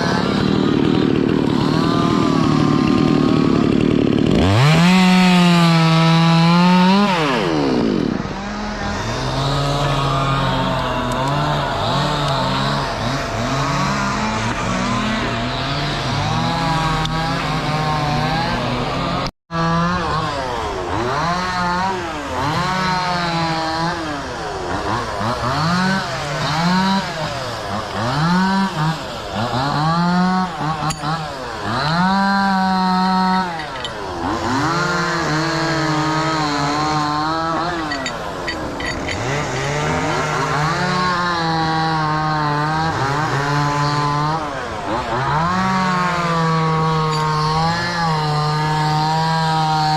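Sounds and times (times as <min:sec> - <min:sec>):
chainsaw engine revving: 0:00.0 - 0:49.9.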